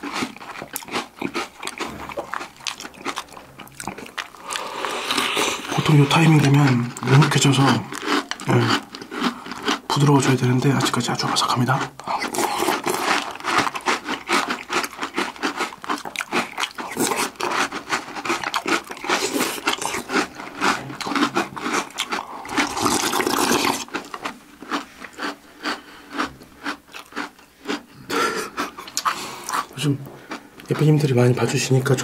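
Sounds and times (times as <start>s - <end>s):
cereal crunching: 0.0s - 27.9s.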